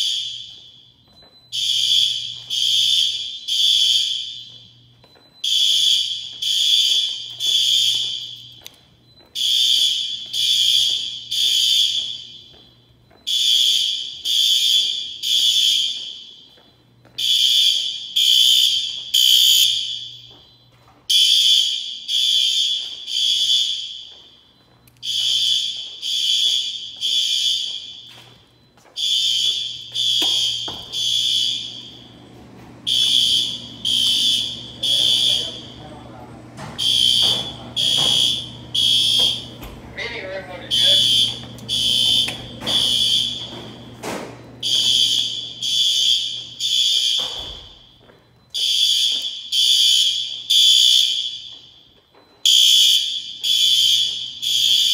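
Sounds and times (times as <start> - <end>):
fire alarm horn blasts: 0.0 - 54.9.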